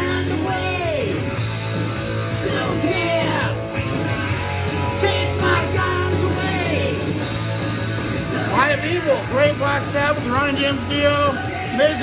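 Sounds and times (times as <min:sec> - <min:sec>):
rock song with guitar: 0:00.0 - 0:12.0.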